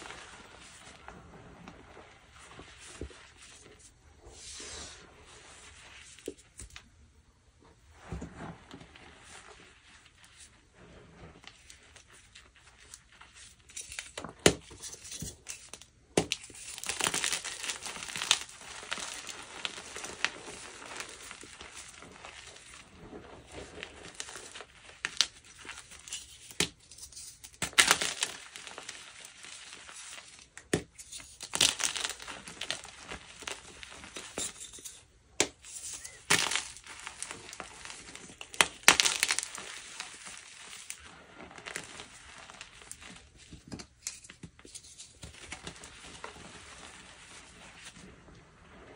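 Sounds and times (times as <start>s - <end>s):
chalk cracking and crumbling: 0.0s - 6.9s, 8.0s - 48.9s.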